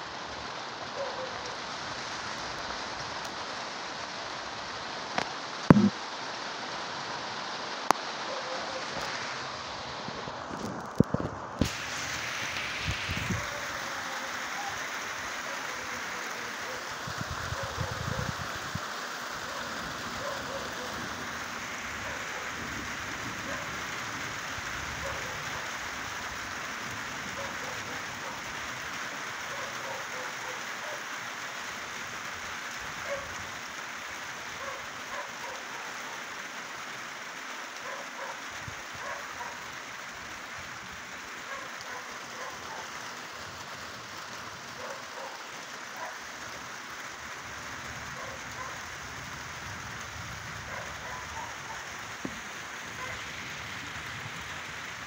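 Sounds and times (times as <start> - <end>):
steady rain: 0.0 - 55.0
water drips and splashes: 0.3 - 55.0.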